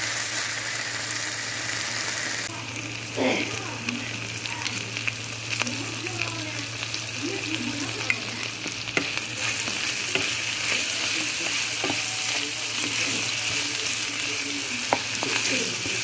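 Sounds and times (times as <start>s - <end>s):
food sizzling in oil in a pan: 0.0s - 16.0s.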